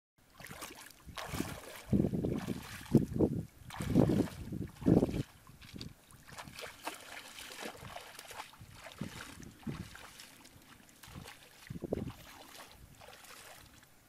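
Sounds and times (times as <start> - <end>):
feet sloshing through water: 0.2 - 14.0.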